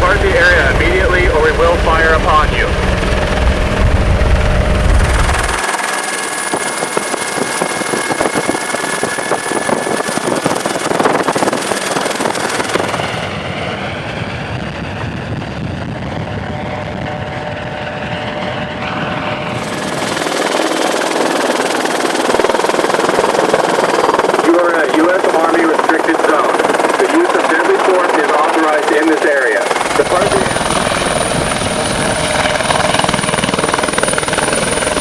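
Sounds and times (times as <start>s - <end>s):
helicopter rotor chopping: 0.0s - 35.0s.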